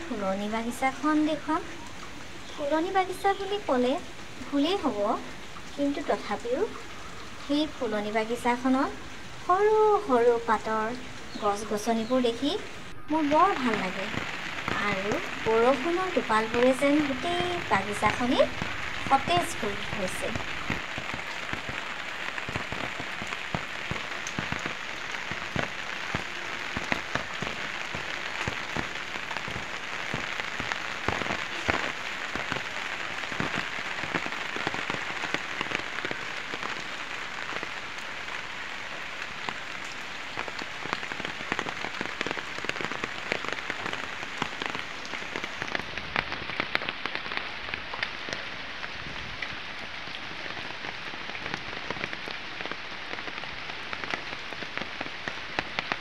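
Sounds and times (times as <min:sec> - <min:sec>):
rain on plant leaves: 0:00.0 - 0:56.0.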